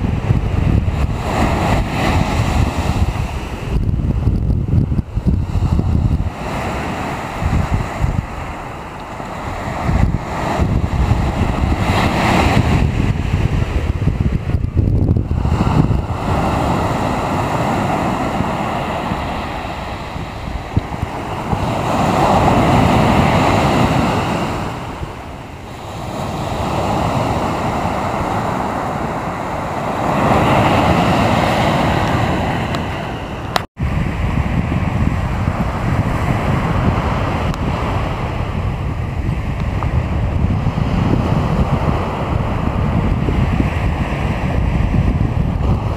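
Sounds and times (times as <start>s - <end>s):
sea waves washing on shore: 0.0s - 45.9s
wind rumbling on microphone: 0.0s - 45.9s.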